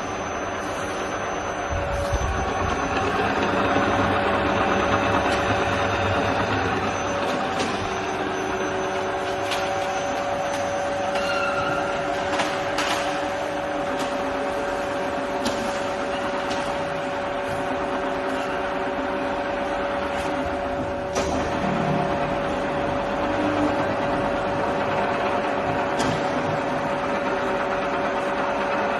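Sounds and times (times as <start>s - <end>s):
milling machine hum and whine: 0.0s - 28.9s.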